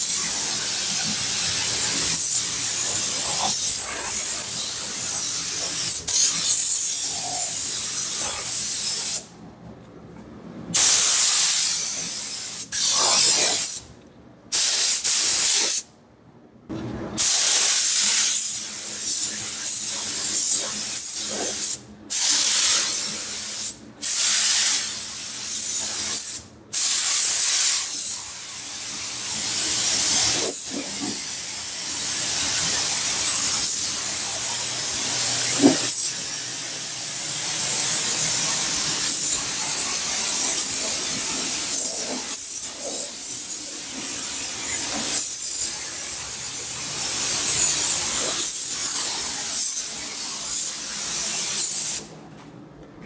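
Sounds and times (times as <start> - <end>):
paint spray gun hissing: 0.0 - 9.3, 10.8 - 13.8, 17.2 - 52.1.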